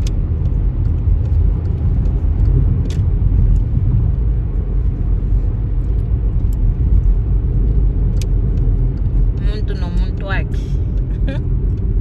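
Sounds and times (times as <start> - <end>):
car rumbling on the move: 0.0 - 12.0.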